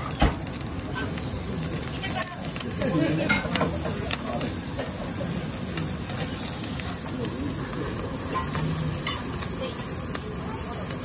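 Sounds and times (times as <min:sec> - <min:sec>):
meat sizzling on a grill: 0:00.0 - 0:11.0
murmur of voices: 0:00.5 - 0:11.0.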